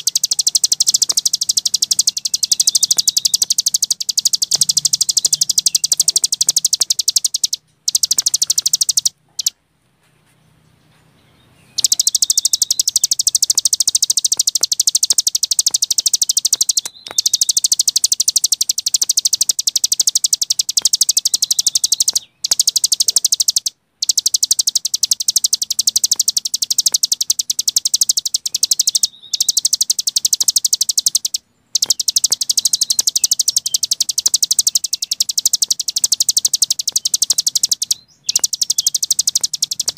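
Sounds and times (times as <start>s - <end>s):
songbird rapid chirping song: 0.0s - 39.9s.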